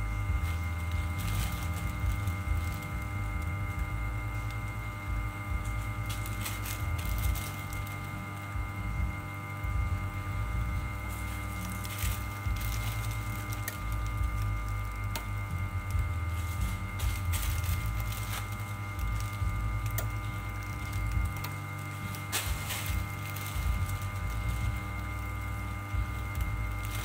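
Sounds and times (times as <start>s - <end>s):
low hum and rumble: 0.0s - 27.0s
plastic bag crackling: 0.0s - 27.0s.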